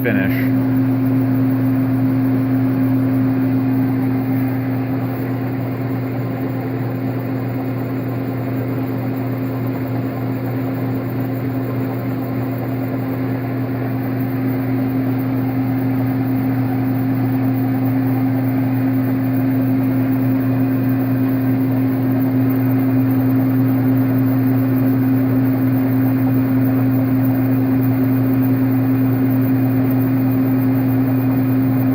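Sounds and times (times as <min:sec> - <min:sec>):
metal lathe humming: 0:00.0 - 0:31.9.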